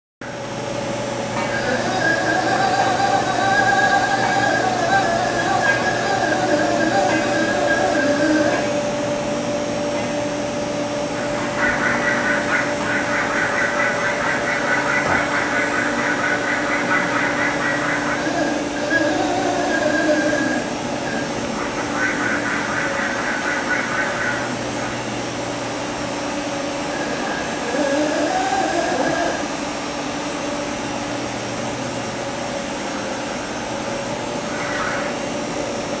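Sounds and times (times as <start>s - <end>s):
boring mill machine hum: 0.2s - 36.0s.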